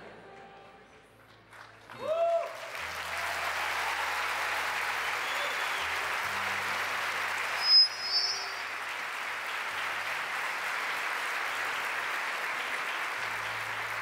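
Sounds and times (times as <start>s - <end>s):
congregation applauding: 0.6s - 14.0s.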